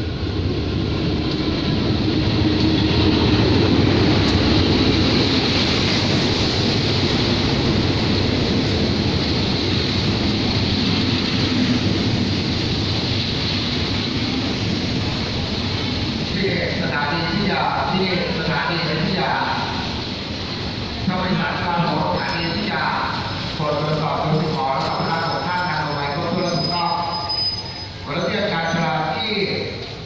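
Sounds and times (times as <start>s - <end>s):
diesel locomotive passing: 0.0s - 30.0s
train wheels rushing on rails: 0.0s - 30.0s.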